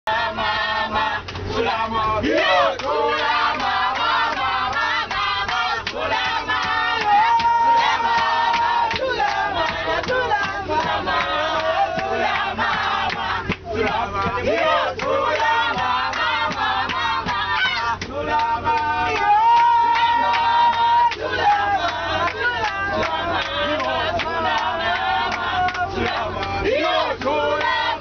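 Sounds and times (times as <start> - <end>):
group singing and chanting: 0.1 - 28.0
rhythmic hand-clapping: 0.1 - 28.0.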